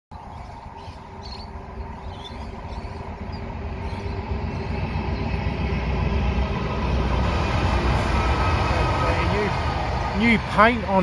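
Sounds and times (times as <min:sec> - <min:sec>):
diesel locomotive engine rumble: 0:00.1 - 0:11.0.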